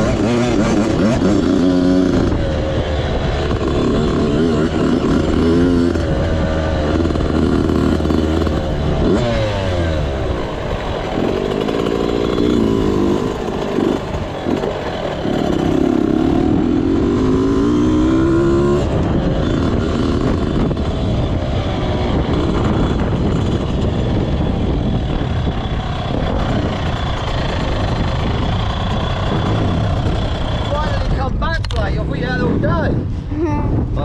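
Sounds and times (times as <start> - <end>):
rough steady engine: 0.0 - 33.4
motorbike engine revving: 0.0 - 33.5.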